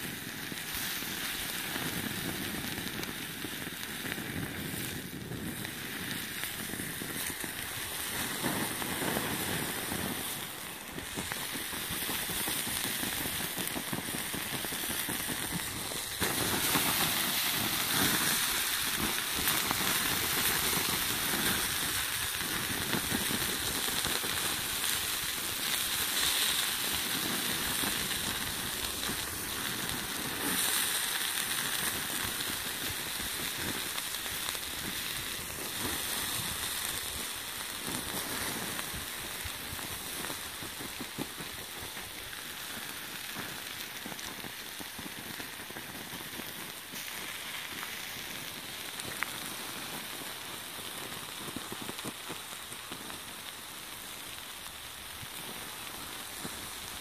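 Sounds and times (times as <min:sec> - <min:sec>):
hose spraying water: 0:00.0 - 0:50.6
small crackles: 0:00.0 - 0:57.0.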